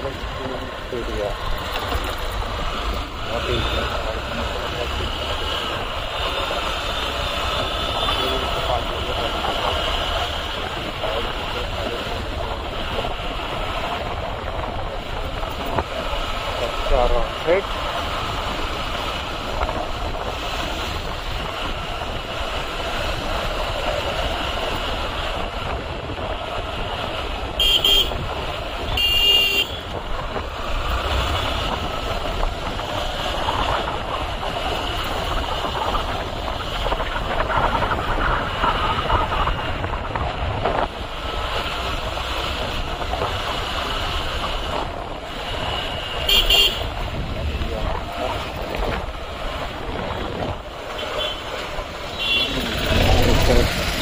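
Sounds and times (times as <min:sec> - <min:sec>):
motorcycle engine: 0:00.0 - 0:54.0
road noise: 0:00.0 - 0:54.0
wind noise on microphone: 0:07.0 - 0:17.3, 0:18.0 - 0:54.0.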